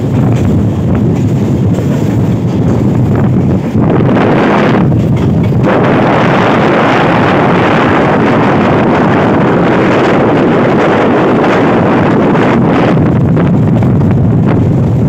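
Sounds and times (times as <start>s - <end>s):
train running on track: 0.0s - 15.0s
wind rushing over microphone: 0.0s - 15.0s.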